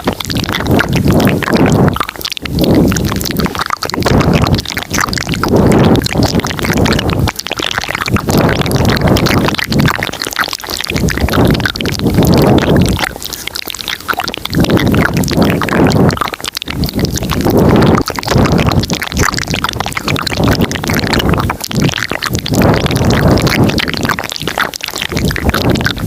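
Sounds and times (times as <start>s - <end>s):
rumbling mouth noises: 0.0s - 26.0s
wet mouth clicks and smacks: 0.0s - 26.0s.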